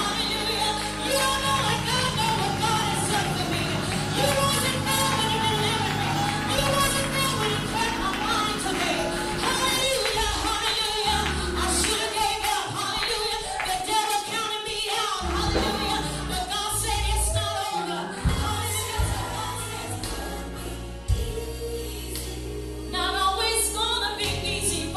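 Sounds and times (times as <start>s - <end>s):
gospel song with instruments: 0.0s - 24.9s.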